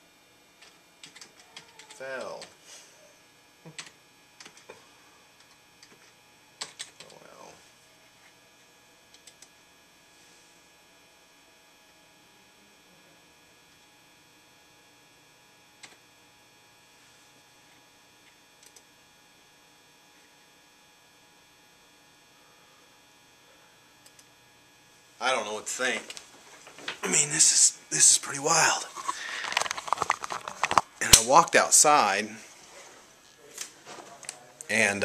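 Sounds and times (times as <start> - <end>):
faint electrical hum: 0.0 - 35.0.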